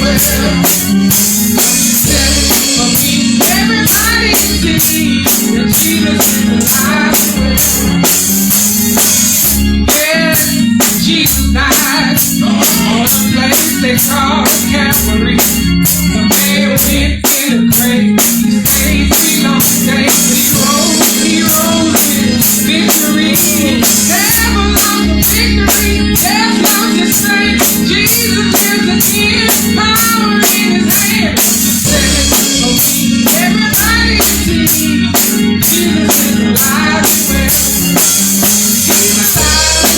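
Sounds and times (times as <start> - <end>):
bass line: 0.0 - 39.9
drum and cymbal beat: 0.0 - 39.9
praise band playing live: 0.0 - 39.9.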